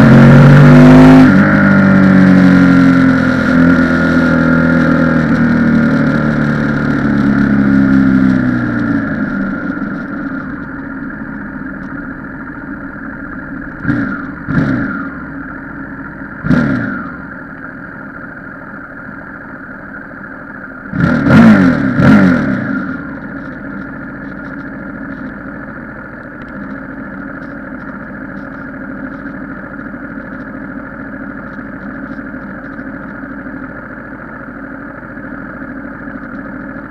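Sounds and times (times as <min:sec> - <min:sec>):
vehicles passing by: 0:00.0 - 0:36.9
motorcycle engine idling: 0:01.4 - 0:36.9.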